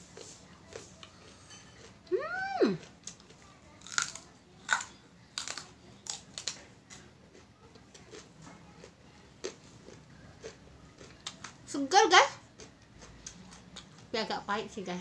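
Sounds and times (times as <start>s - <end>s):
crunching of stalk being chewed: 0.0s - 2.1s, 2.7s - 11.6s, 12.5s - 14.1s.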